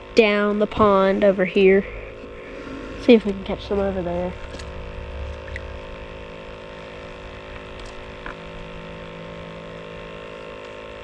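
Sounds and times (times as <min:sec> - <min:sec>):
steady hum of constant tones: 0:00.0 - 0:11.0.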